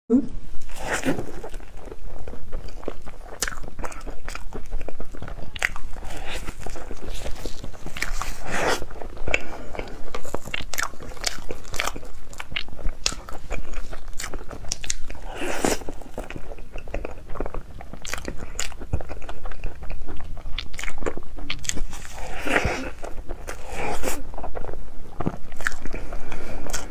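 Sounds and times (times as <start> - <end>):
crepes being bitten and chewed: 0.5 - 26.9.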